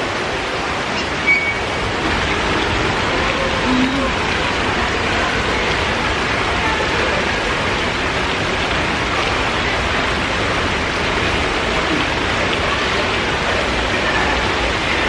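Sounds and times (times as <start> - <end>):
splashing water jets and waterfall: 0.0 - 15.0.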